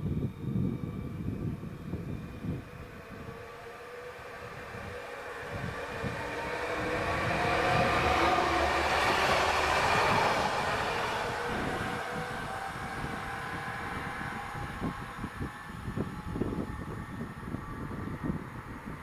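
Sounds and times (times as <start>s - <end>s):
train rumble: 0.0s - 19.0s
whining tones: 0.0s - 19.0s.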